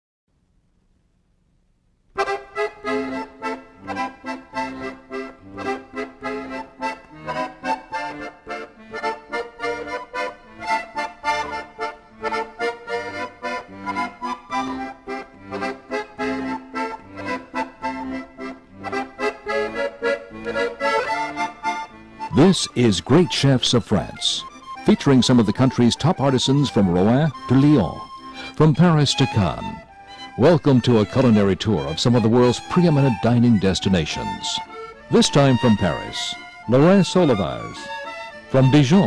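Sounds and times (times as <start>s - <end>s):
accordion music: 2.2s - 39.0s.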